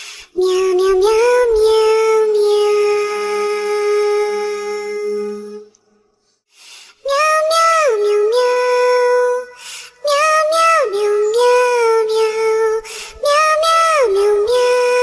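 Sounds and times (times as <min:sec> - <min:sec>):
high childlike singing voice: 0:00.3 - 0:05.7, 0:07.0 - 0:15.0.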